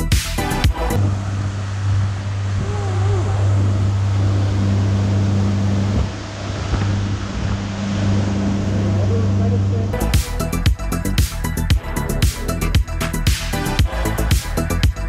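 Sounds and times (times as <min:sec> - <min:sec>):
motorboat engine droning: 0:00.0 - 0:15.0
water rushing: 0:00.4 - 0:15.0.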